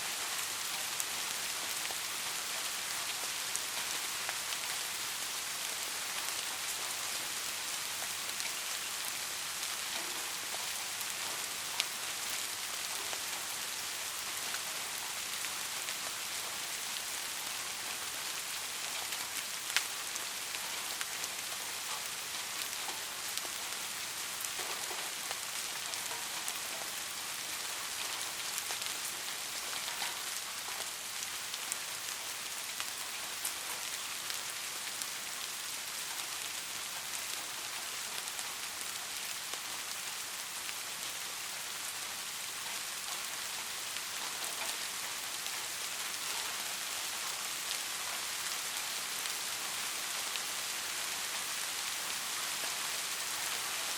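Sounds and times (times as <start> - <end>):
rain hissing: 0.0 - 53.9
raindrops ticking on a surface: 0.0 - 53.9.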